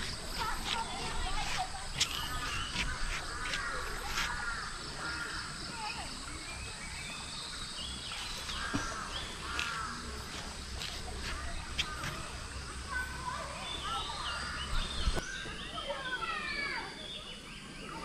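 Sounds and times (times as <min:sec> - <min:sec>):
birds calling: 0:00.0 - 0:18.0
steady outdoor background noise: 0:00.0 - 0:18.0.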